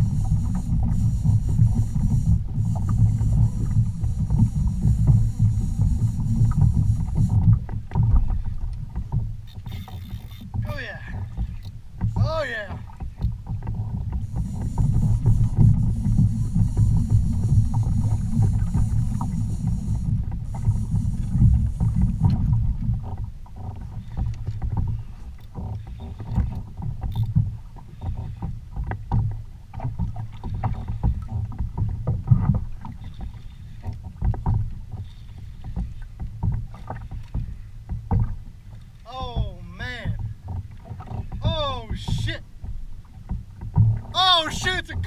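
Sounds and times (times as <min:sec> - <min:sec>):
water sloshing against kayak hull: 0:00.0 - 0:45.0
small sharp ticks and splashes: 0:00.4 - 0:15.9, 0:16.6 - 0:39.1.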